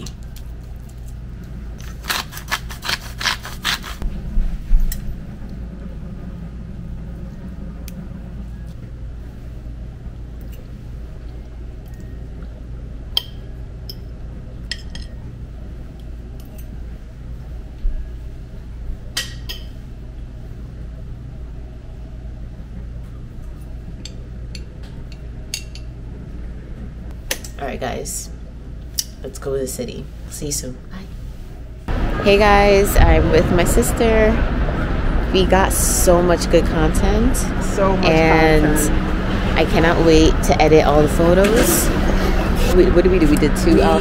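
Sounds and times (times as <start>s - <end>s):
low room hum: 0.0s - 44.0s.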